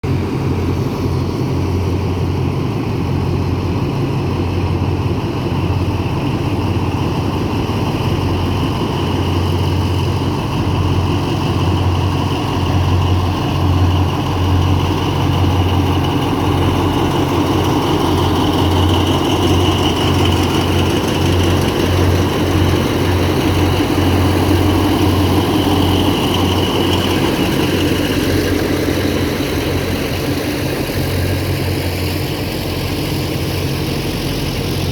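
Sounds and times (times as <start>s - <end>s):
locomotive diesel engines humming: 0.0s - 34.9s.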